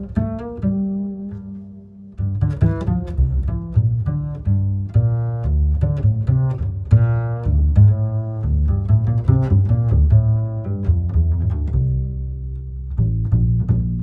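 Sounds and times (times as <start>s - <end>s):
low string bass line: 0.0s - 14.0s.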